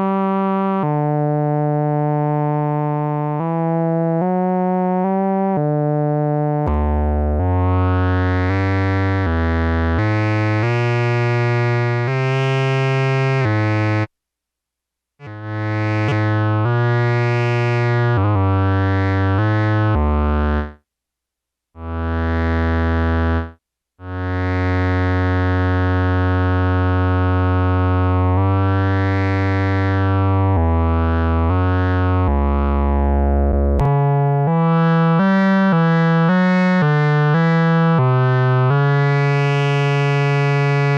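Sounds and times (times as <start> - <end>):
analog synthesizer sustained notes: 0.0 - 14.1, 15.2 - 20.8, 21.8 - 40.9.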